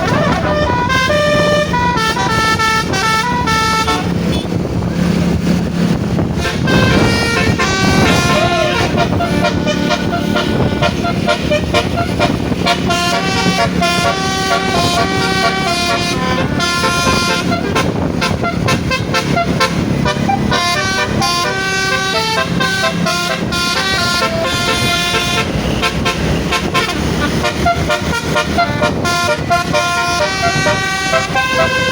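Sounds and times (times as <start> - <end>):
low road rumble: 0.0 - 31.9
multi-tone bus horn melody: 0.0 - 31.9.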